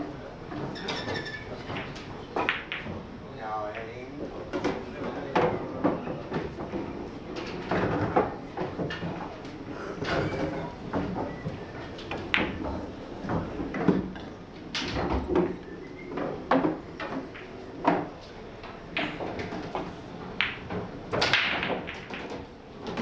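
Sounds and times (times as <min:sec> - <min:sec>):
low background murmur: 0:00.0 - 0:21.2
billiard balls clacking: 0:00.5 - 0:23.0.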